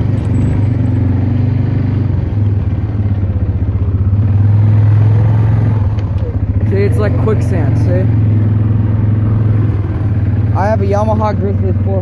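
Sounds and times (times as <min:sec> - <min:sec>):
atv engine running at low speed: 0:00.0 - 0:12.0.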